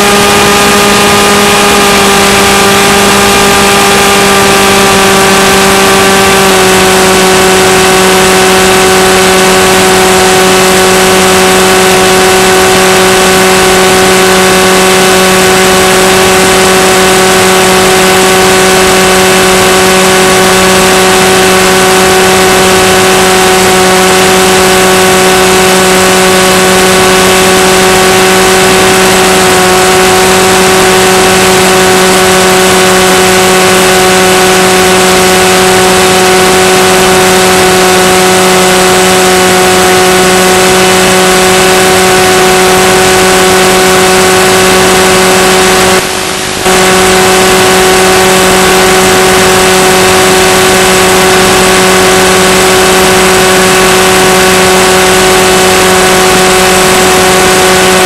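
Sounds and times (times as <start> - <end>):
steady buzzing drone: 0.0 - 58.0.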